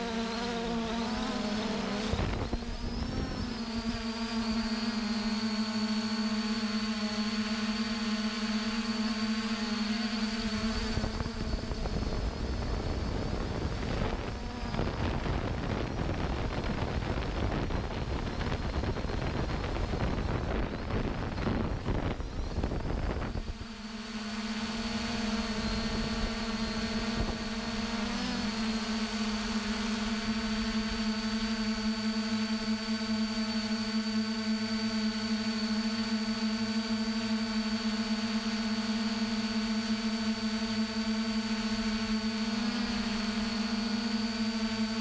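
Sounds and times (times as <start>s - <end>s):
drone of held tones: 0.0s - 45.0s.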